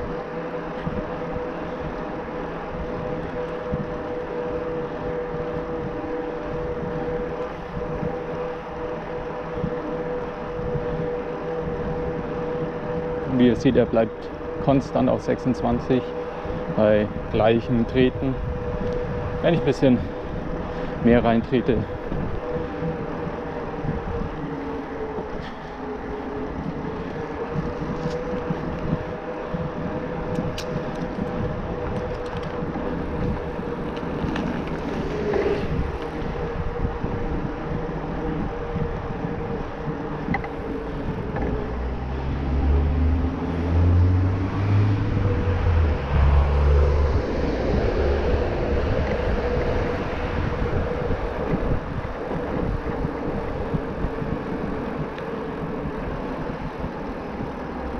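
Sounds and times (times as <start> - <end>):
electric bike motor whining: 0.0 - 57.9
tyre noise: 0.0 - 57.9
wind buffeting microphone: 0.0 - 57.9.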